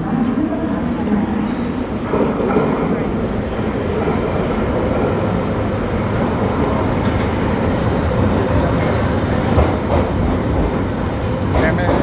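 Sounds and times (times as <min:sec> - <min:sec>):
underground train rumbling: 0:00.0 - 0:12.0.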